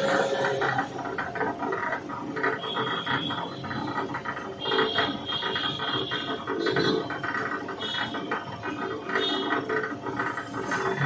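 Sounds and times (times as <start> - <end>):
feed rollers rattling: 0.0 - 11.0
machine whine: 0.0 - 11.0.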